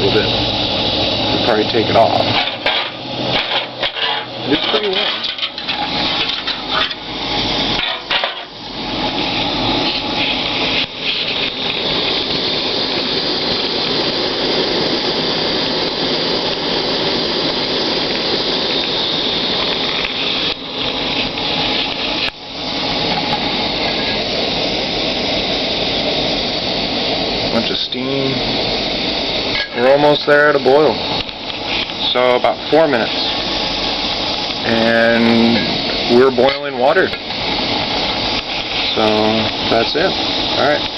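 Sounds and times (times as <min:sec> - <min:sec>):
stove burner hissing: 0:00.0 - 0:40.9.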